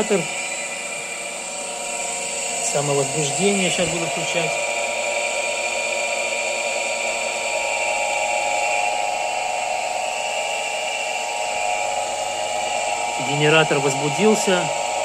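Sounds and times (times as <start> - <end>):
electric motor whine and hum: 0.0 - 15.0.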